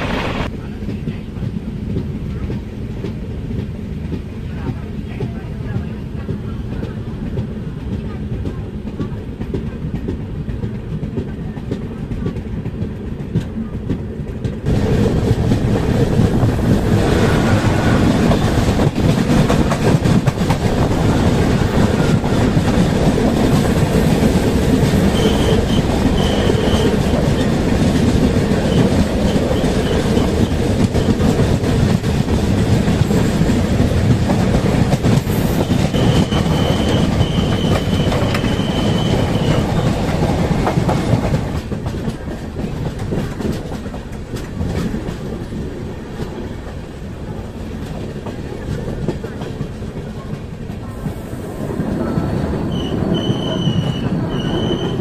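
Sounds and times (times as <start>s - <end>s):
express train passing close: 0.0s - 55.0s
train wheels clickety-clack on rail: 0.0s - 55.0s.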